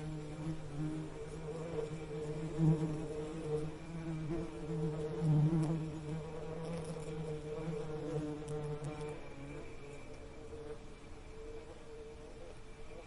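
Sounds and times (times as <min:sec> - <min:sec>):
bee buzzing: 0:00.0 - 0:13.0.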